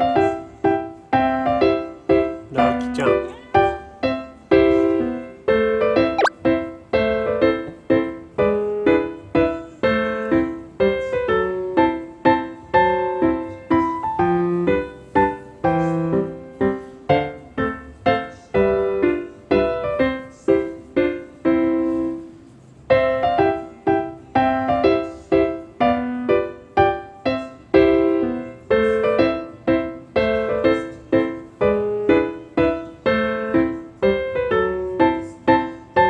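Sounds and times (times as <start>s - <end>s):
light piano melody: 0.0s - 36.0s.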